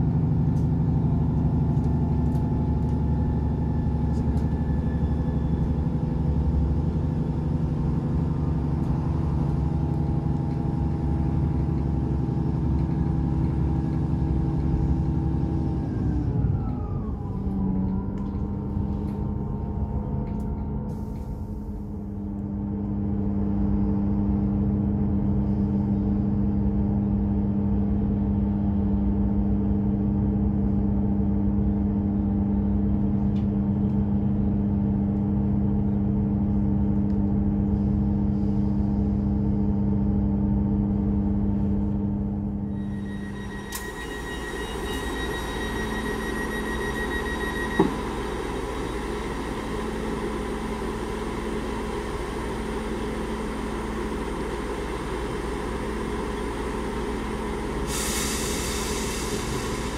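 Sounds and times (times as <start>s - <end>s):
diesel engine idling hum: 0.0s - 59.9s
train engine and transmission running: 0.0s - 59.9s.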